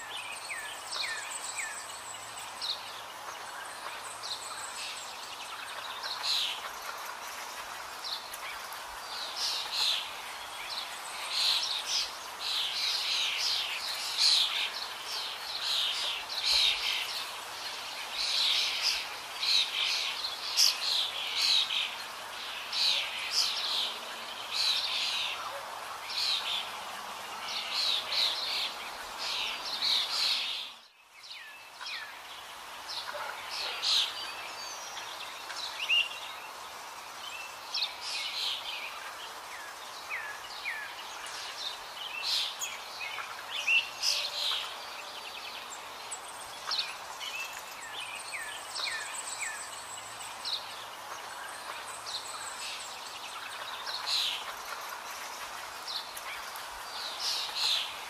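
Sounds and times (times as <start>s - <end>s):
birds chirping and trilling: 0.0s - 58.0s
steady hiss: 0.0s - 58.0s.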